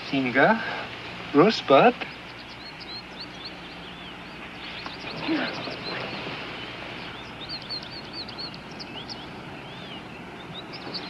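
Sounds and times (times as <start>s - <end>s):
small birds chirping: 0.1s - 11.0s.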